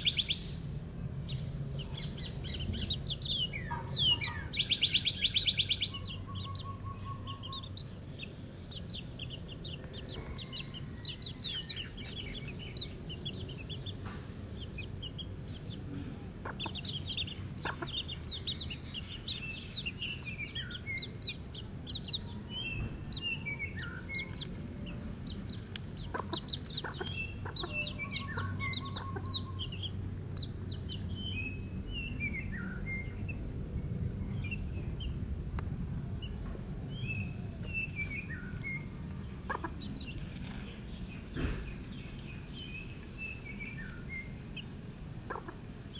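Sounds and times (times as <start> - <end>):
chicks peeping: 1.2 - 33.5, 36.2 - 45.9.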